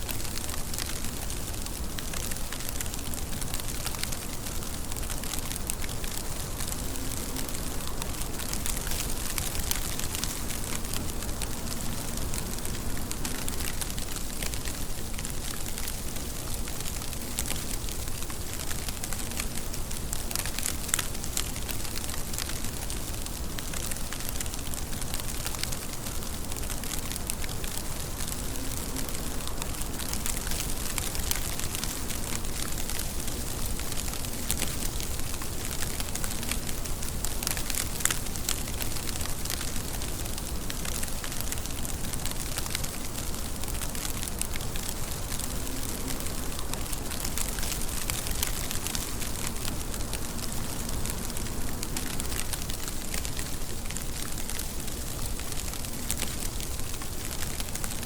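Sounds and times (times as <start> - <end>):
sharp raindrop ticks: 0.0 - 58.0
steady rain falling: 0.0 - 58.0.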